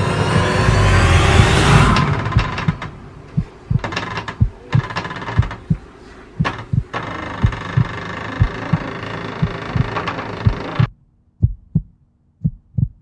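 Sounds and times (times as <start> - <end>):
heartbeat thuds: 0.0 - 13.0
steady hum: 0.0 - 13.0.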